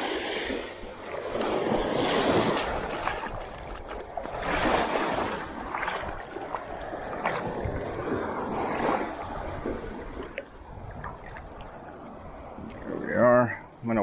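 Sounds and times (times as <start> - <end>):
wind on microphone: 0.0 - 13.5
small waves washing: 0.0 - 14.0.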